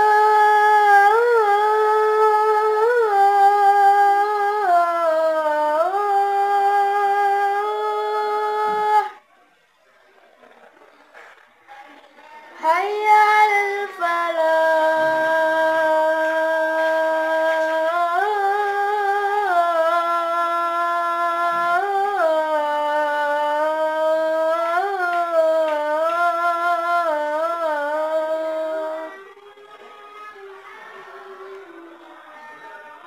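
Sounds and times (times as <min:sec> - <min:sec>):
boy chanting call to prayer: 0:00.0 - 0:09.2, 0:11.8 - 0:33.0.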